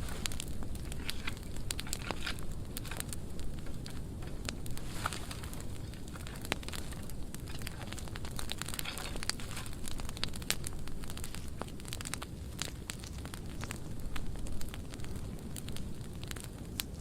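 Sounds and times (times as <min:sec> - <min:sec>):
fire low rumble: 0:00.0 - 0:17.0
wood crackling and popping: 0:00.0 - 0:17.0.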